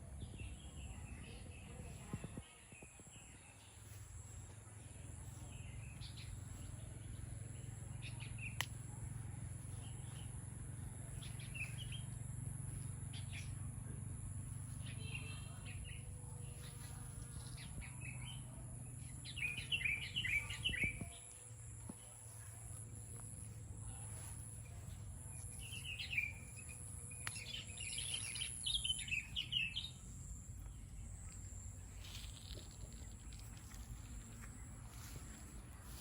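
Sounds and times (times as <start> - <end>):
songbirds chirping: 0.0 - 36.0
steady low hum: 0.0 - 36.0.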